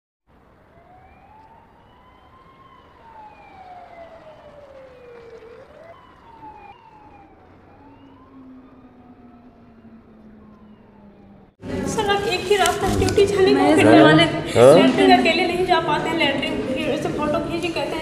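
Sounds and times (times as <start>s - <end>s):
street noise: 0.2s - 18.0s
police sirens wailing: 0.3s - 18.0s.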